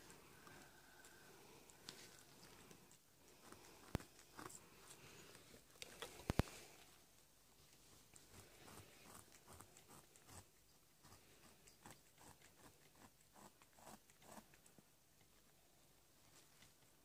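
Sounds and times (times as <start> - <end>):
cat licking and chewing: 0.3 - 6.9, 7.7 - 15.6.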